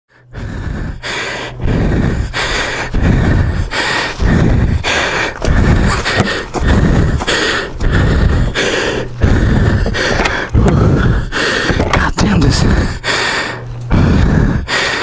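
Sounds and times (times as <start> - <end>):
person breathing hard: 0.1 - 15.0.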